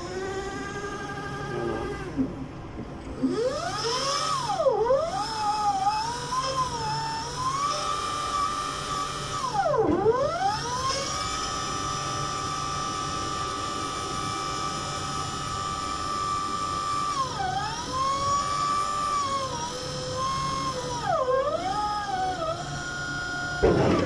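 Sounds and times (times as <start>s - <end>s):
hydraulic pump motor whine: 0.0s - 24.0s.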